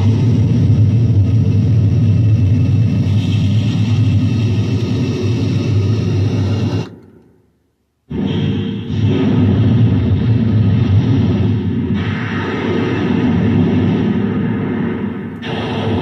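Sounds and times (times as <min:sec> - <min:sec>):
distorted electronic noise music: 0:00.0 - 0:07.2, 0:08.1 - 0:16.0
heavy low hum: 0:00.0 - 0:16.0.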